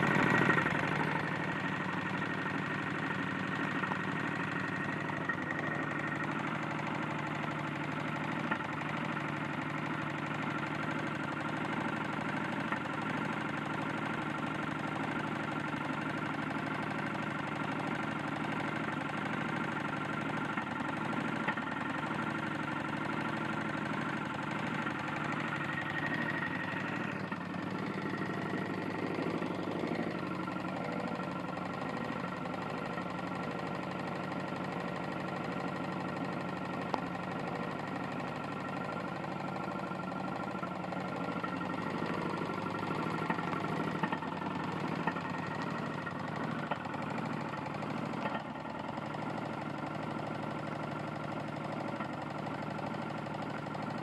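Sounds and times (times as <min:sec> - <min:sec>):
lawn mower engine knocking: 0:00.0 - 0:54.0.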